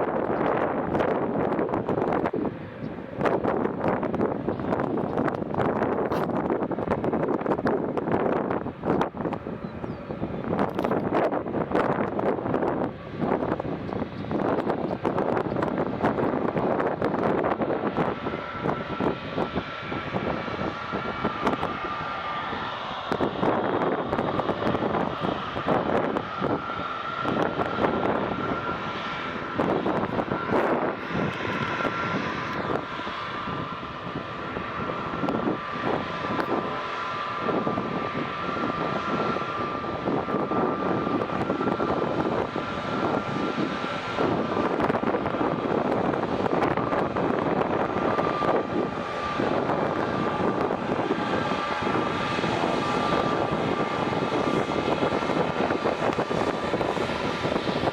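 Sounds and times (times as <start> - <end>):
airplane engines whining: 0.0 - 57.9
broad rushing noise: 0.0 - 57.9.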